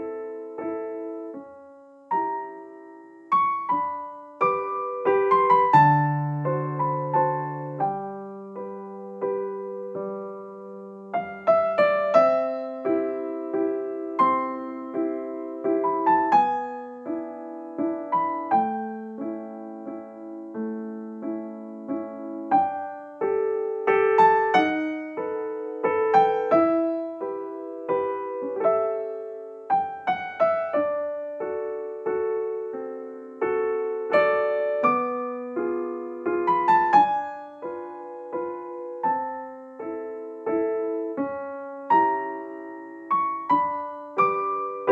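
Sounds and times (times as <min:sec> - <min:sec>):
gentle solo piano piece: 0:00.0 - 0:44.9.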